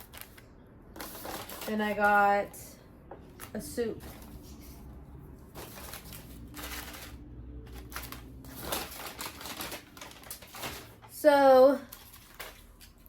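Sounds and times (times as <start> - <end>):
food packaging rustling: 0.0 - 2.3, 3.2 - 13.0.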